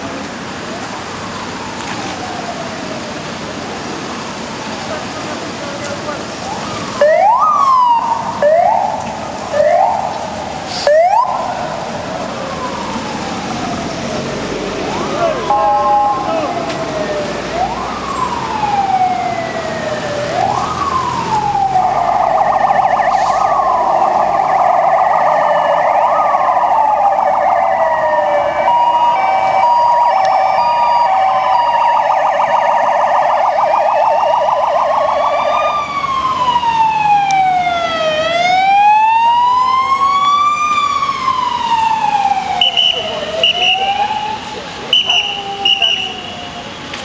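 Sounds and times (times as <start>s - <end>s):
police sirens wailing: 0.0s - 47.0s.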